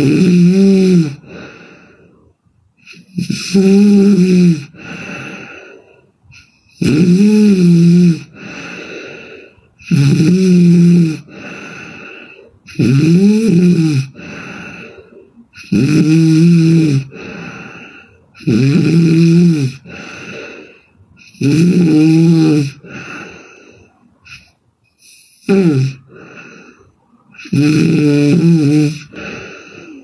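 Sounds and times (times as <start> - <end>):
woman snoring: 0.0 - 2.2, 2.8 - 5.8, 6.4 - 30.0.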